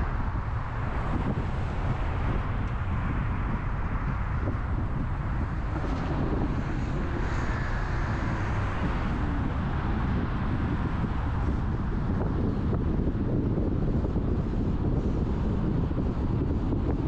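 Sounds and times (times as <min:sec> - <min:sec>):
car road noise rumble: 0:00.0 - 0:17.0
wind noise on microphone: 0:00.0 - 0:17.0.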